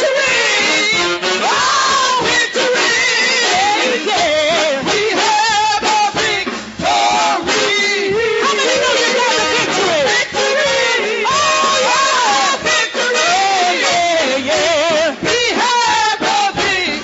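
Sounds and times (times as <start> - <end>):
gospel music with singing: 0.0 - 17.0.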